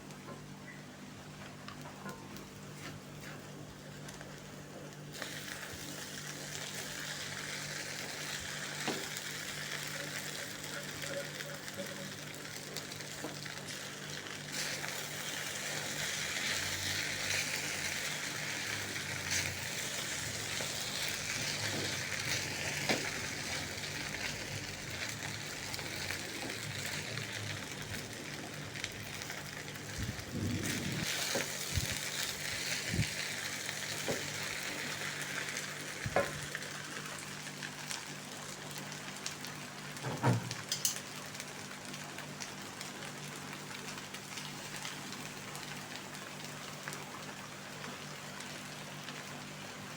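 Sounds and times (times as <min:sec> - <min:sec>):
food sizzling in a pan: 0:03.1 - 0:49.9.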